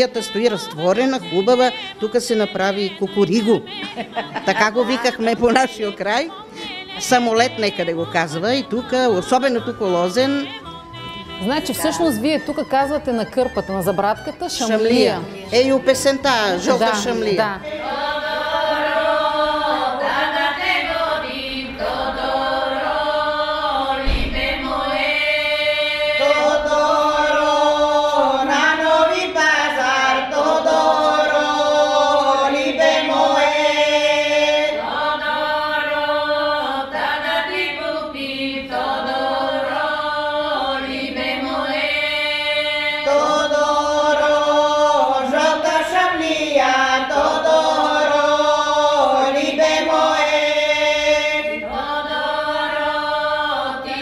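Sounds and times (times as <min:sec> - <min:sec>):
women singing folk song unaccompanied: 0:00.0 - 0:54.0.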